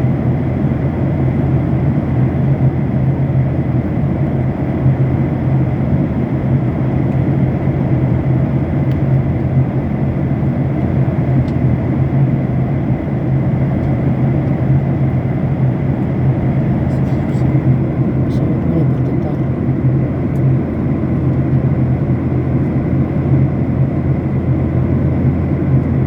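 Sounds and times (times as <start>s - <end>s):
airliner cabin drone: 0.0s - 26.0s.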